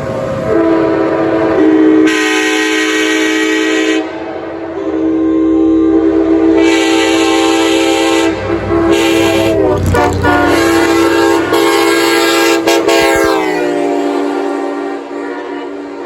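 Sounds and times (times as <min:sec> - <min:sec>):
train air horn chord: 0:00.5 - 0:16.0.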